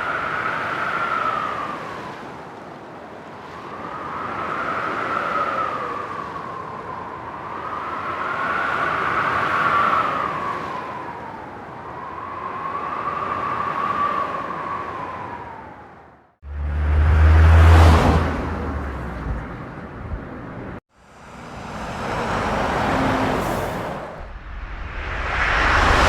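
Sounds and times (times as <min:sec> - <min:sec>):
light wind blowing: 0:00.0 - 0:26.0.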